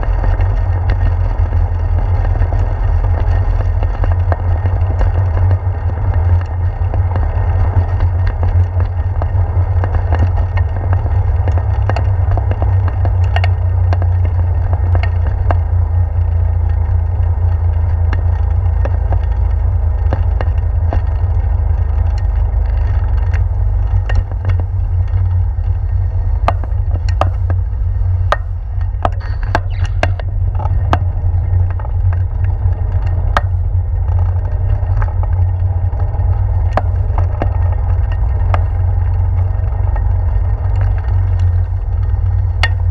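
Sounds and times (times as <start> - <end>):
bicycle tyres rumbling on boards: 0.0 - 42.9
sharp clicks and knocks: 0.0 - 42.9.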